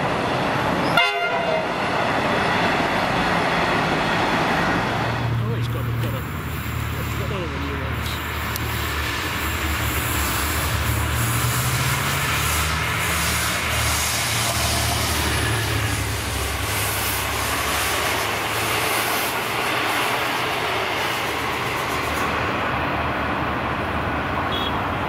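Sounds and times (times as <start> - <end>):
carriages wheel and rail noise: 0.0 - 25.0
diesel locomotive engine drone: 0.0 - 25.0.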